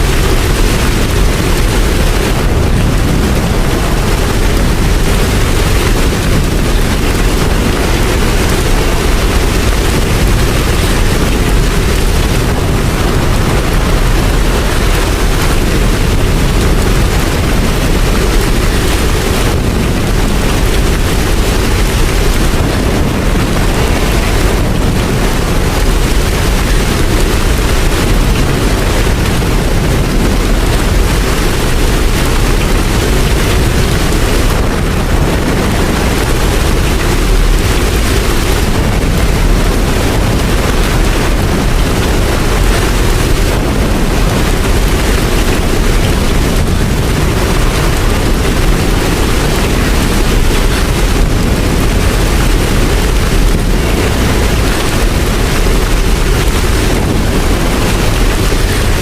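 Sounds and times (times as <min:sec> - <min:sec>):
low rumble: 0:00.0 - 0:59.0
steady rain: 0:00.0 - 0:59.0.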